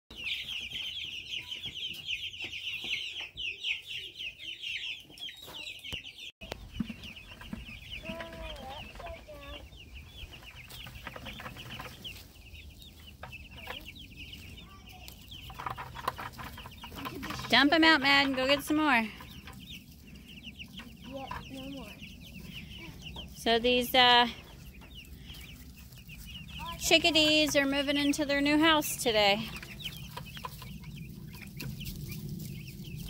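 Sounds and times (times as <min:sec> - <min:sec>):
chicks peeping: 0:00.1 - 0:33.0.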